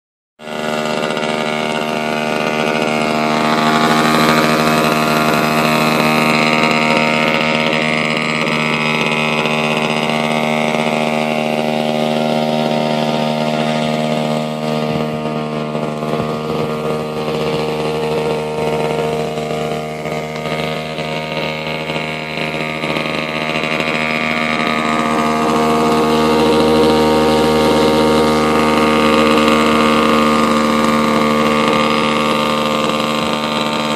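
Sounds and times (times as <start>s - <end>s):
model engine idling: 0.4s - 33.9s.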